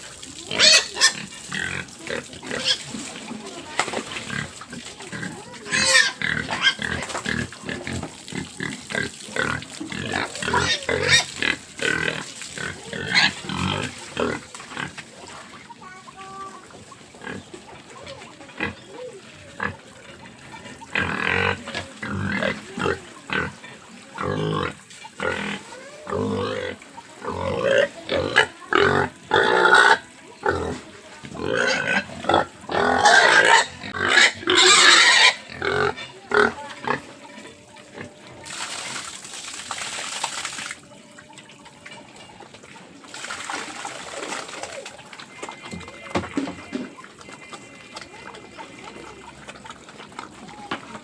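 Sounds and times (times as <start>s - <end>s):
pigs grunting and squealing: 0.0s - 38.7s, 44.1s - 50.8s.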